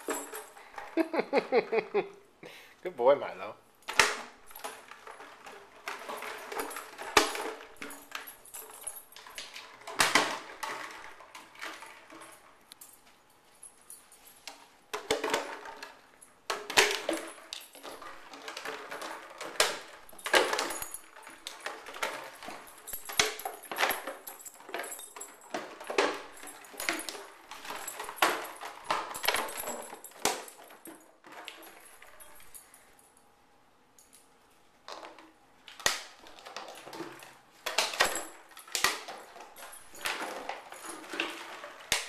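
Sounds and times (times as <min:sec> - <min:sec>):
plastic bottle crinkling and clattering: 0:03.8 - 0:13.1, 0:14.4 - 0:32.2, 0:34.9 - 0:42.0.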